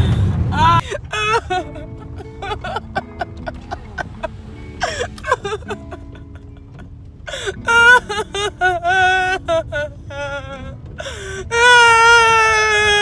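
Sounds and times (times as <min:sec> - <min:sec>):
car cabin rumble: 0:00.0 - 0:13.0
music with held notes: 0:00.8 - 0:13.0.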